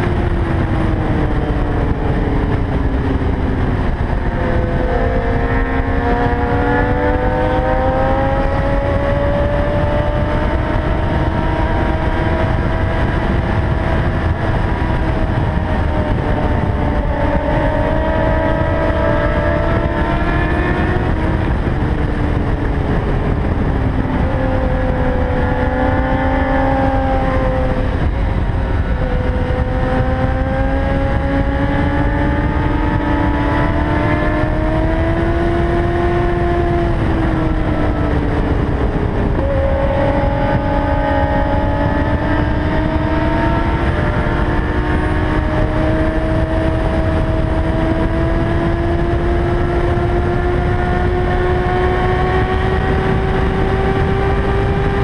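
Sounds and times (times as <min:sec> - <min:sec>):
motorcycle engine at speed: 0:00.0 - 0:55.0
wind rumble: 0:00.0 - 0:55.0.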